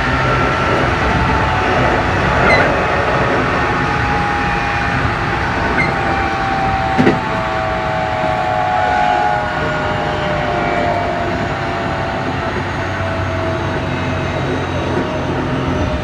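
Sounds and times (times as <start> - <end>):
electric motor whine: 0.0 - 16.0
train wheels rumbling on rail: 0.0 - 16.0.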